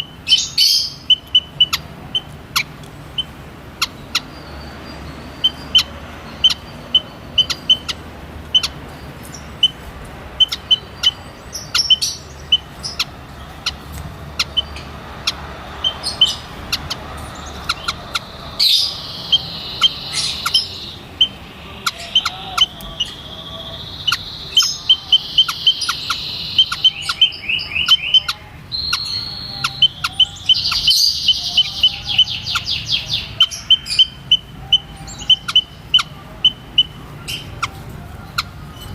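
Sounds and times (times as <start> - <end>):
birds peeping and twittering: 0.0 - 38.9.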